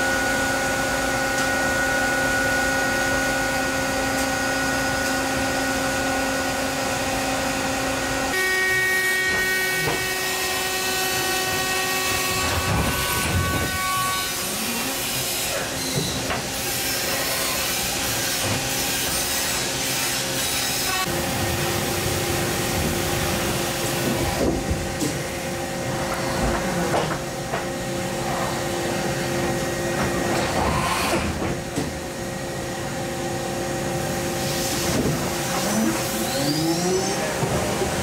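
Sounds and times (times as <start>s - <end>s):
machine spindle whine: 0.0s - 38.0s.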